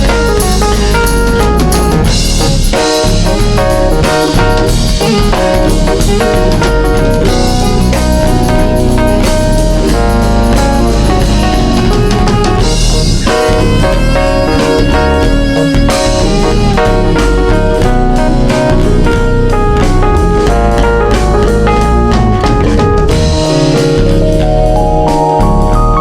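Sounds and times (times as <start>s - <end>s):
drum kit: 0.0s - 26.0s
guitar: 0.0s - 26.0s.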